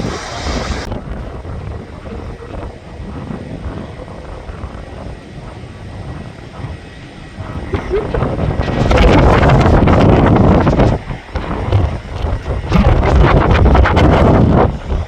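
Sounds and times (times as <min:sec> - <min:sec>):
aircraft engine rumble: 0:00.0 - 0:15.0
wind buffeting microphone: 0:00.0 - 0:15.0.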